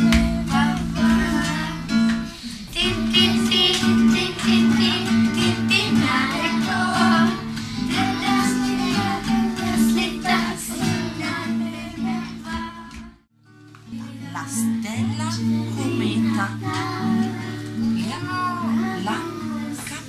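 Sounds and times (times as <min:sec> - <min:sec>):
children singing: 0:00.0 - 0:13.2, 0:15.7 - 0:20.0
acoustic guitar strumming: 0:00.0 - 0:20.0.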